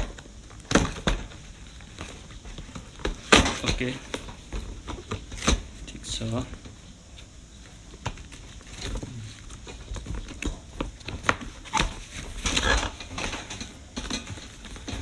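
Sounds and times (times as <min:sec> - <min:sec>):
handling clicks and knocks: 0:00.0 - 0:15.0.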